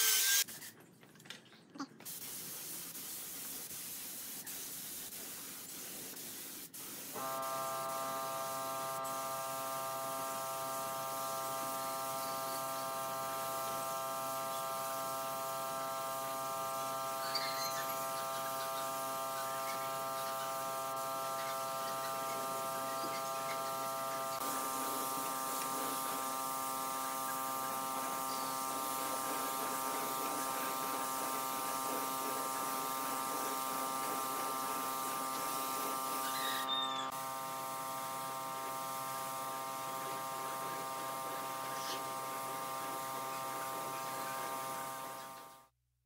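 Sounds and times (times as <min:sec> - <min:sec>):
small motor buzzing: 0:00.0 - 0:00.4, 0:07.2 - 0:45.7.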